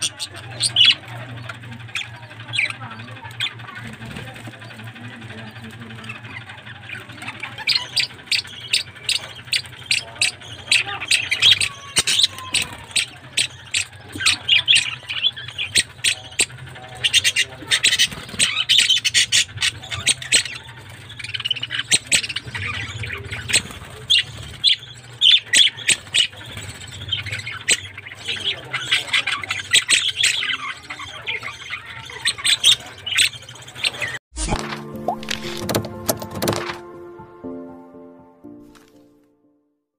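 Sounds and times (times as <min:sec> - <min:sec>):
budgerigars chattering and squawking: 0:00.0 - 0:34.2.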